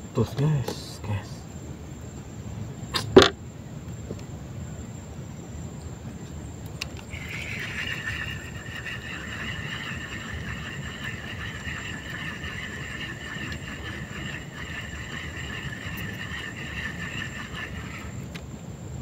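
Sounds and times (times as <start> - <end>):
insect trill: 0.0 - 19.0
low background hiss: 0.0 - 19.0.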